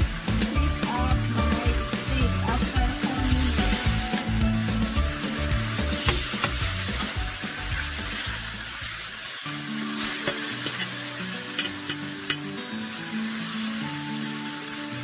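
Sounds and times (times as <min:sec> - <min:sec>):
steaks sizzling in a pan: 0:00.0 - 0:15.0.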